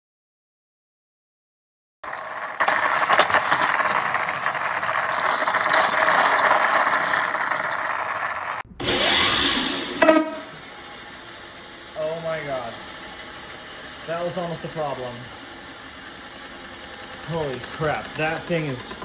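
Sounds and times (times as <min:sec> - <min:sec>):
skateboard wheels rolling on asphalt: 0:02.0 - 0:19.0.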